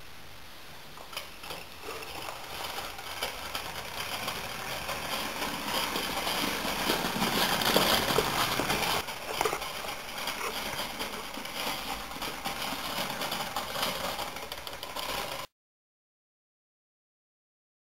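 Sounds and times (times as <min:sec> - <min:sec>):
toy steam engine hissing and rattling: 0:00.0 - 0:15.5.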